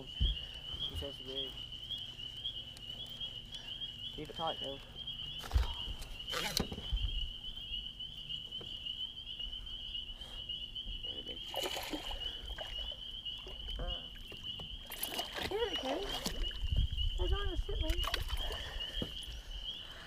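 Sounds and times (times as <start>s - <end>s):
chorus of calling frogs or insects: 0.0s - 20.0s.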